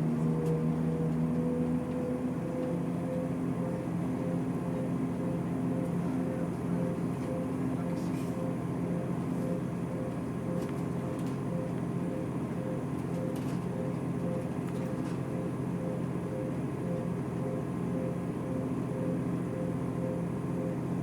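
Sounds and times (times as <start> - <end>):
vehicle mechanical drone: 0.0 - 21.0.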